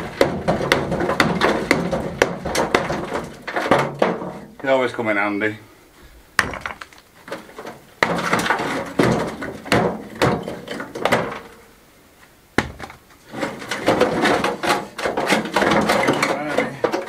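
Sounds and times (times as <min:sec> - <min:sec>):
rubble clattering into metal wheelbarrow: 0:00.0 - 0:04.6, 0:06.4 - 0:11.7, 0:12.6 - 0:17.0.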